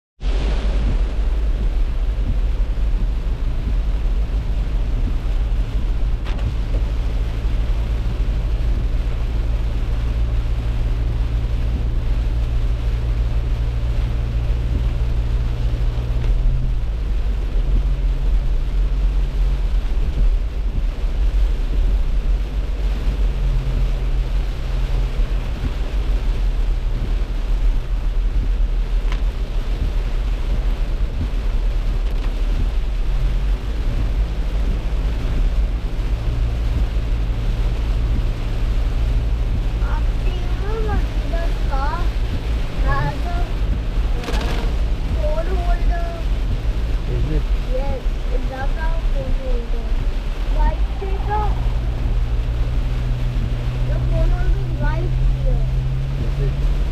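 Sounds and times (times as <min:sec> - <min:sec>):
car engine drone: 0:00.2 - 0:56.9
road noise: 0:00.2 - 0:56.9.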